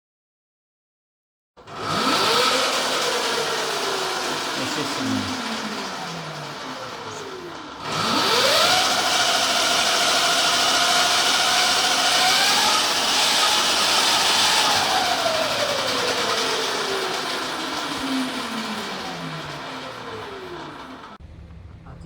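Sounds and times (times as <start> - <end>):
electric motor whining: 1.6 - 21.2.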